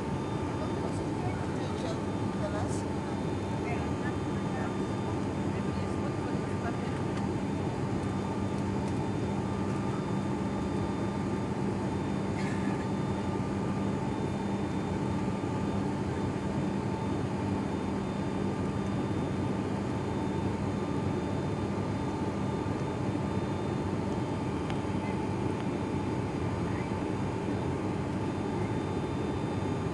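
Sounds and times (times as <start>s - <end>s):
turboprop engines droning: 0.0s - 29.9s.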